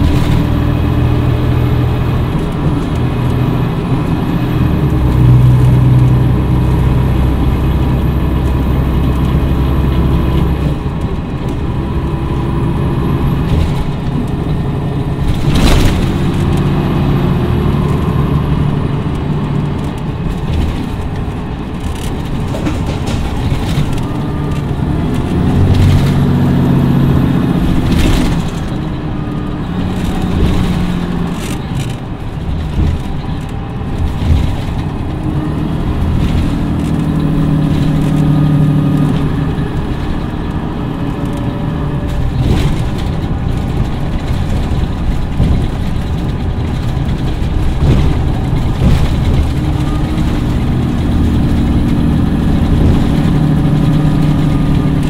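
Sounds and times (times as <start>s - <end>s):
diesel coach engine running: 0.0s - 55.0s.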